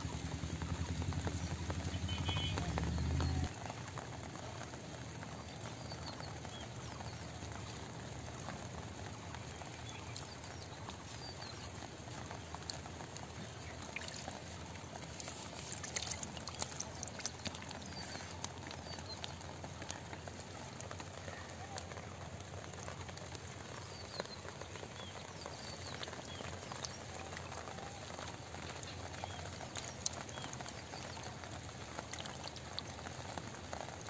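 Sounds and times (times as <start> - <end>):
sharp water splashes: 0.0 - 21.2, 21.8 - 34.0
water trickling in channel: 0.0 - 34.0.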